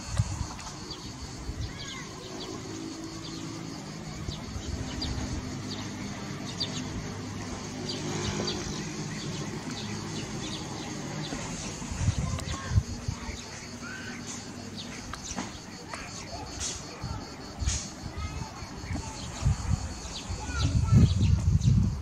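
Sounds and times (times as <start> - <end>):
high insect buzz: 0.0 - 22.0
small birds chirping: 0.0 - 22.0.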